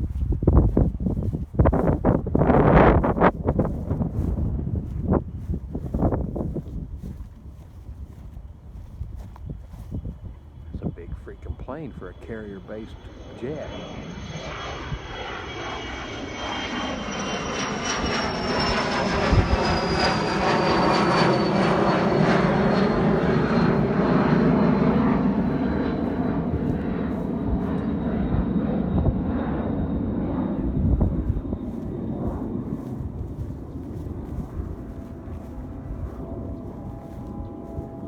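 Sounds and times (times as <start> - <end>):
aircraft flying past: 0.0 - 38.0
high engine whine: 0.0 - 38.0.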